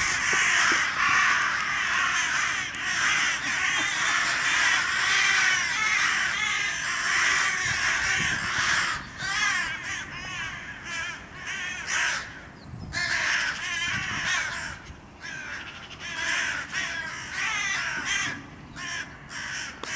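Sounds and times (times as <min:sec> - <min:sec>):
crow cawing harshly: 0:00.0 - 0:19.9.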